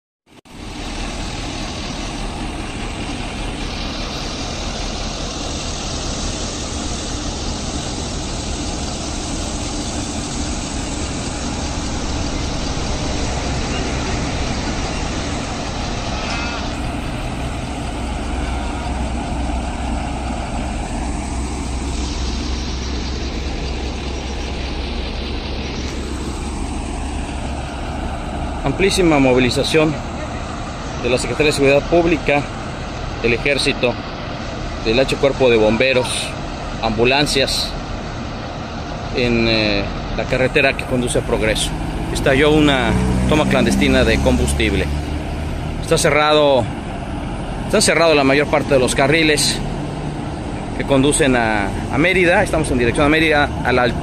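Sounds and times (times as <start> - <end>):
vehicle road and engine noise: 0.3 - 54.0.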